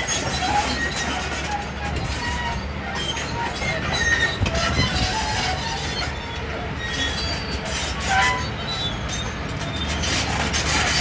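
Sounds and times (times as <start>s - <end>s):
diesel machinery rumbling: 0.0s - 11.0s.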